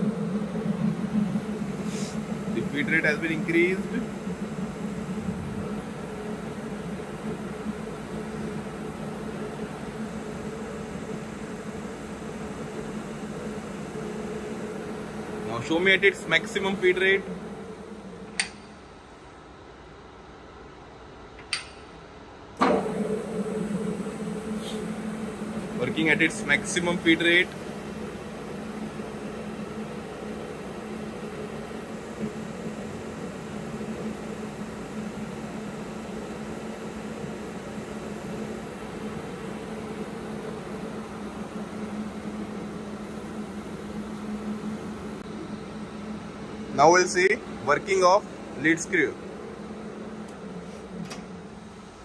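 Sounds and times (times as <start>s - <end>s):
lathe humming: 0.0s - 18.9s, 22.6s - 52.0s.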